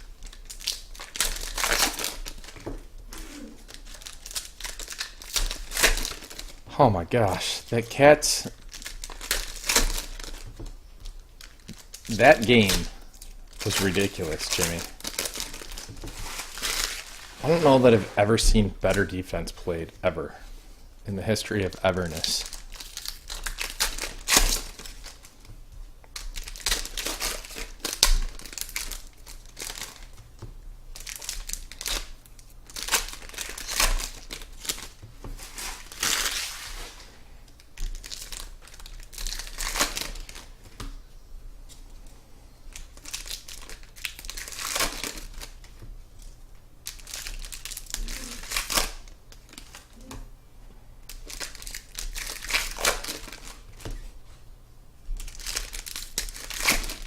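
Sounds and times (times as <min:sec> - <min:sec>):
plastic wrapping crinkling and tearing: 0:00.0 - 0:06.6, 0:08.4 - 0:19.2, 0:21.3 - 0:25.5, 0:26.1 - 0:30.2, 0:30.9 - 0:40.8, 0:42.7 - 0:50.1, 0:51.1 - 0:54.1, 0:55.2 - 0:57.0.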